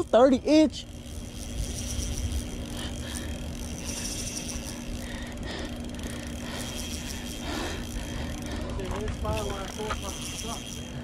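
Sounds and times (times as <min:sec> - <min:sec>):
fishing reel gears ticking: 0:00.0 - 0:11.0
low rumble and hum: 0:00.0 - 0:11.0.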